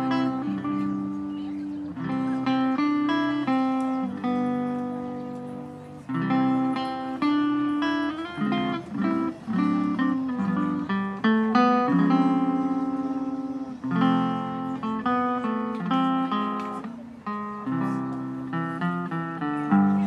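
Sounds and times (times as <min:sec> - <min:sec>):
guitar playing melody: 0:00.0 - 0:20.0.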